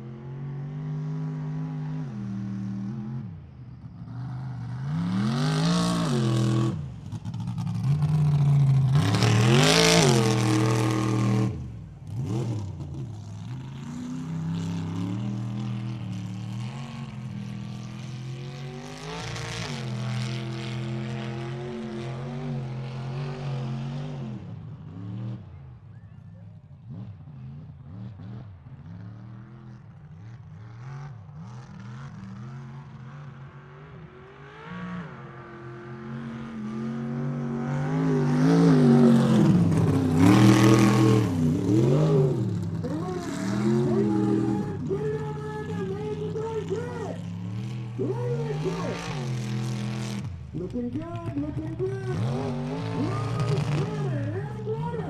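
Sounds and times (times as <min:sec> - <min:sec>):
truck engine revving: 0:00.0 - 0:26.2, 0:26.8 - 0:55.0.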